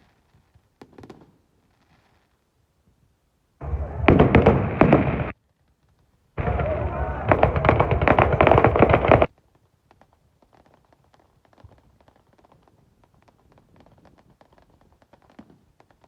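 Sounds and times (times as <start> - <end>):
firework bangs and crackles: 0.0 - 2.4, 3.6 - 16.0.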